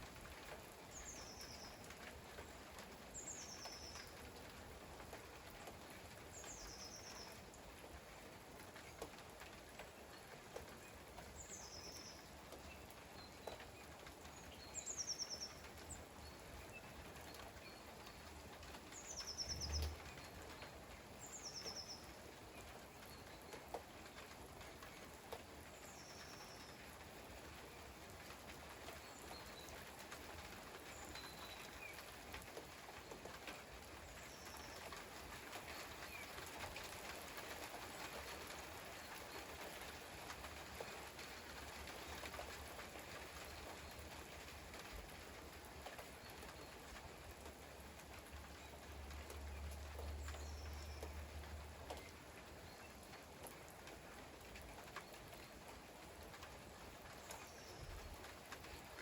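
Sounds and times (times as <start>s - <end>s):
light rain hissing: 0.0s - 59.0s.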